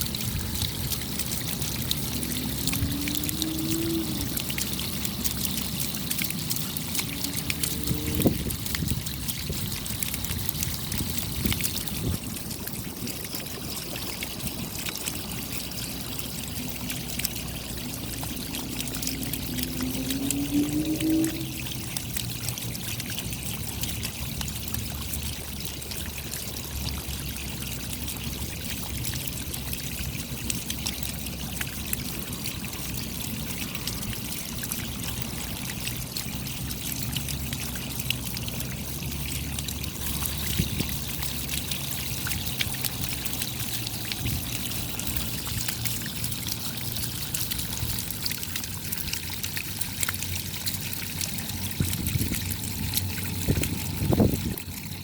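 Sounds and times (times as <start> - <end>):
rain pattering: 0.0 - 55.0
running trickling water: 0.0 - 55.0.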